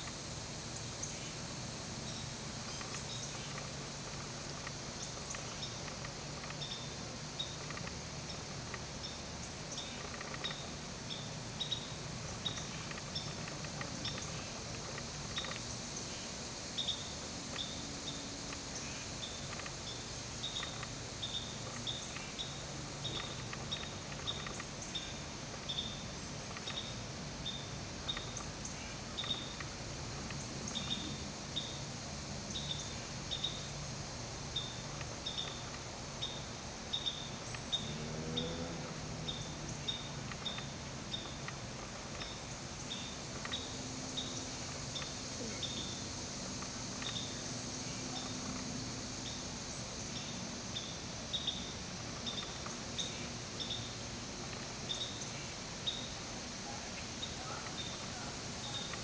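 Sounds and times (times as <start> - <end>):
steady high hiss: 0.0 - 59.0.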